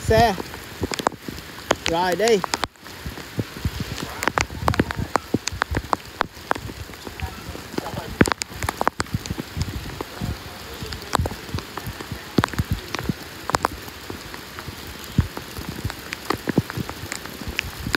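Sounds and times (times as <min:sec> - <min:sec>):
heavy rain falling: 0:00.0 - 0:17.9
sharp taps of raindrops: 0:00.0 - 0:17.9.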